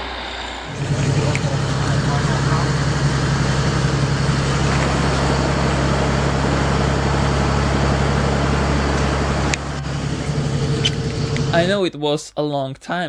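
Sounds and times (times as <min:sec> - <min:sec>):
diesel engine running steadily: 0:00.0 - 0:11.7.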